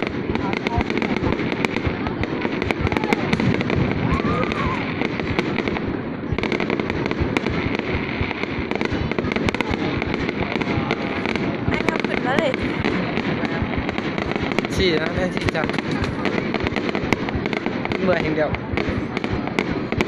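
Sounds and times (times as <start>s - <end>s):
fireworks bangs and crackling: 0.0s - 20.0s
low rumble: 0.0s - 20.0s.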